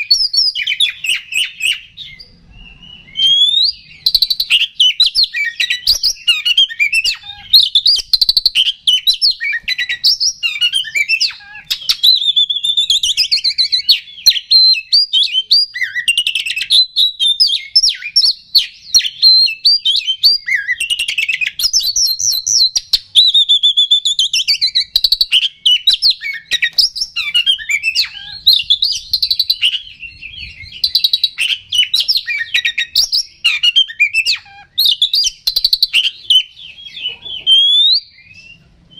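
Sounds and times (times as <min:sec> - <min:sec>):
bird singing whistles and trills: 0:00.0 - 0:38.9.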